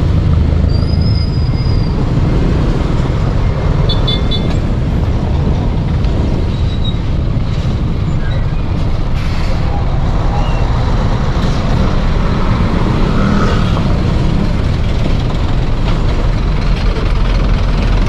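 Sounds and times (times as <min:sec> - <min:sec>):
traffic drone: 0:00.0 - 0:18.0.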